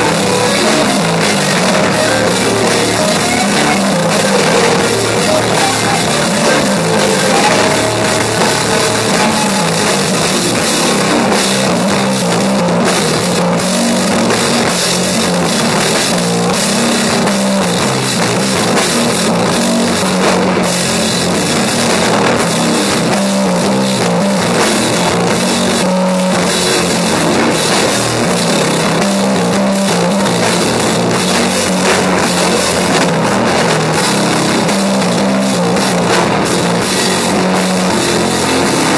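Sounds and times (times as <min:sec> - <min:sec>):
drum and cymbal hits: 0:00.0 - 0:38.9
heavy electric guitar: 0:00.0 - 0:38.9.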